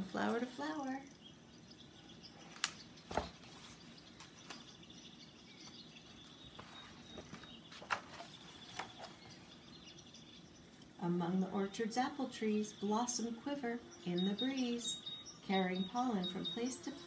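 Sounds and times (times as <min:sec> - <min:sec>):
faint high chirping: 0:00.1 - 0:17.0.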